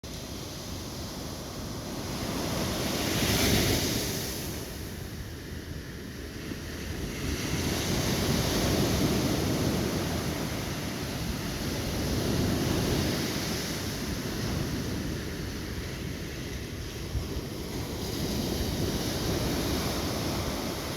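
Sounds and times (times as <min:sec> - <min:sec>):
sea waves breaking on shore: 0:00.1 - 0:20.9
wind buffeting microphone: 0:00.2 - 0:20.9.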